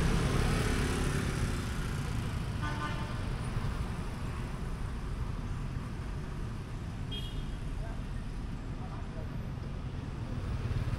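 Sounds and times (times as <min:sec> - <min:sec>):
motorbike traffic: 0:00.0 - 0:10.9.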